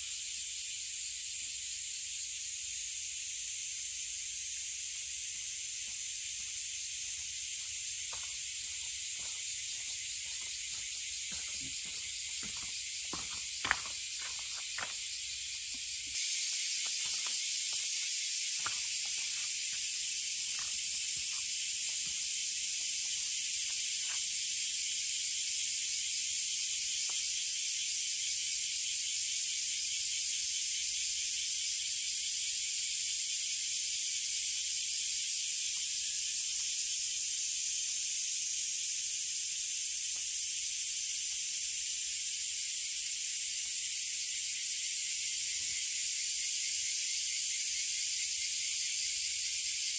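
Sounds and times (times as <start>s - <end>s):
cicadas buzzing: 0.0s - 49.9s.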